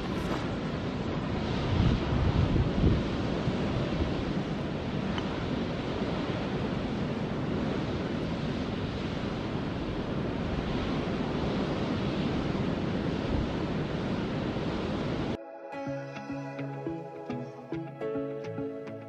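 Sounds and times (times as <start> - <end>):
wind rumble on microphone: 0.0 - 15.4
distant waterfall rushing: 3.0 - 19.0.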